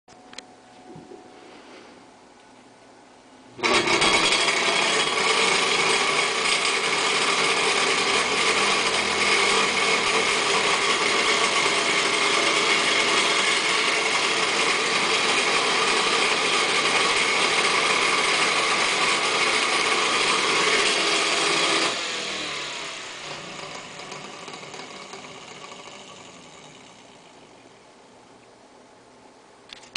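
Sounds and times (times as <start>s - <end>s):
electric fan whirring: 0.1s - 29.9s.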